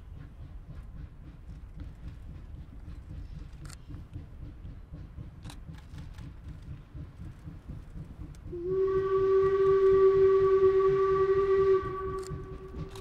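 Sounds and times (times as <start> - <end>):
distant steam locomotive rumble: 0.0 - 13.0.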